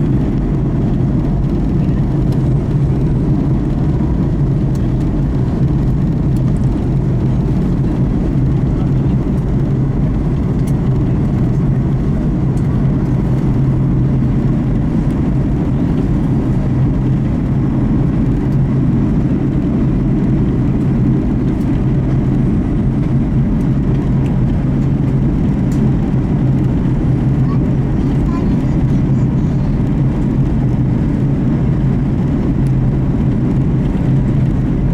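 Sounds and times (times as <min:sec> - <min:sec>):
aircraft cabin engine rumble: 0:00.0 - 0:34.9
constant low hum: 0:00.0 - 0:34.9.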